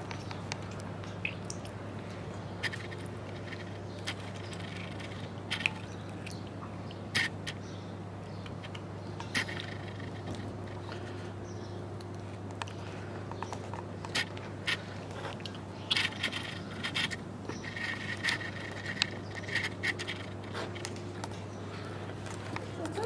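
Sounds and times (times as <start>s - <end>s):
small clicks and scrapes of eating: 0.0s - 23.0s
steady low hum: 0.0s - 23.0s.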